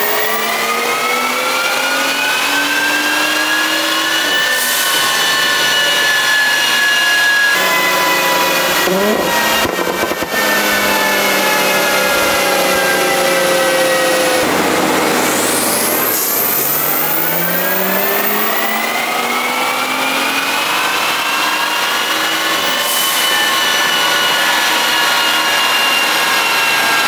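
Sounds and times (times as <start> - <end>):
car engine revving at full throttle: 0.0 - 27.0.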